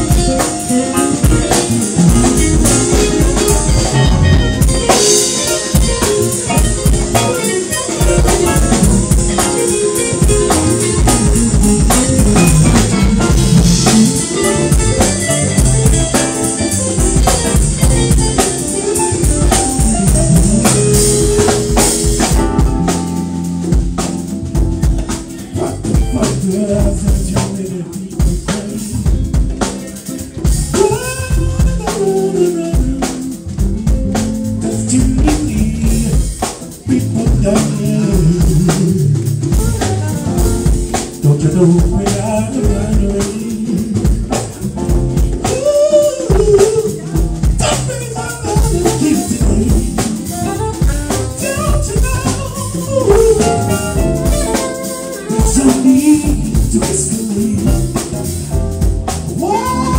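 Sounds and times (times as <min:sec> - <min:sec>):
congas: 0:00.0 - 0:59.9
drum kit with rimshots: 0:00.0 - 0:59.9
electric bass: 0:00.0 - 0:59.9
guitar: 0:00.0 - 0:59.9
keyboard: 0:00.0 - 0:59.9
saxophone: 0:00.0 - 0:59.9.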